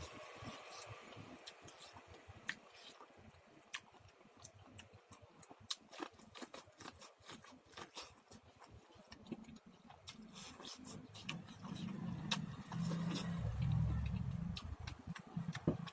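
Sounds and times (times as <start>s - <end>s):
popcorn being chewed: 0.0s - 15.9s.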